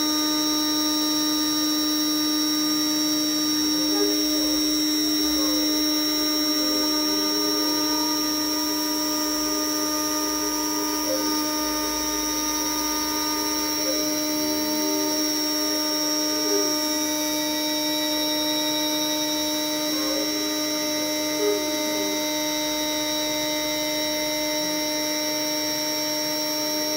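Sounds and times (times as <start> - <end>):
machine tones shifting in pitch: 0.0 - 26.8
cnc router spindle whine: 0.0 - 26.9.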